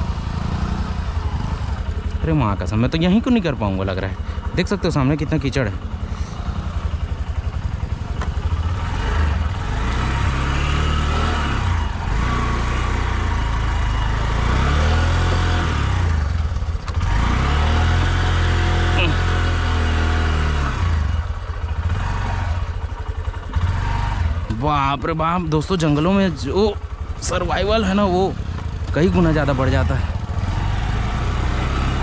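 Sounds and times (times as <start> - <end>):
motorcycle engine revving in mud: 0.0 - 3.4, 5.8 - 32.0.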